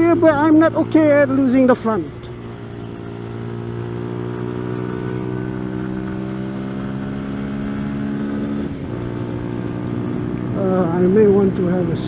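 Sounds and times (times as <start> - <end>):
motorcycle engine pulling steadily: 0.0 - 12.0.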